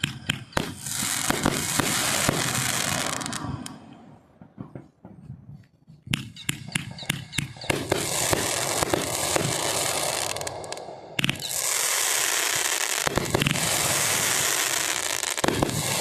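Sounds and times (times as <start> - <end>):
fireworks crackling: 0.0 - 5.4, 6.1 - 16.0
fireworks sharp bangs: 0.0 - 5.4, 6.1 - 16.0.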